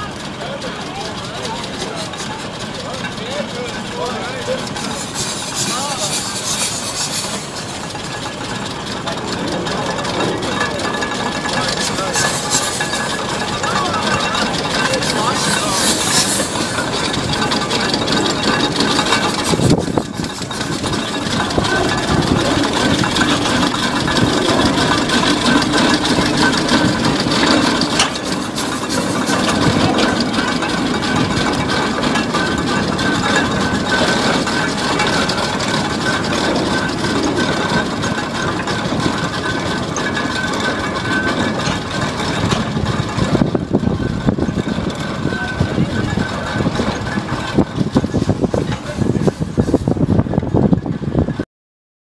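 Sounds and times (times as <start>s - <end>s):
steam engine mechanical clatter: 0.0s - 51.4s.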